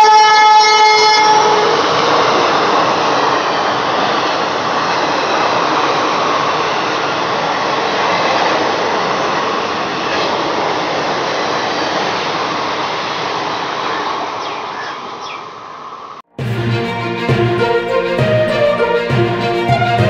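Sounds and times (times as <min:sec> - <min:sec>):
train coaches rushing past: 0:00.0 - 0:20.0.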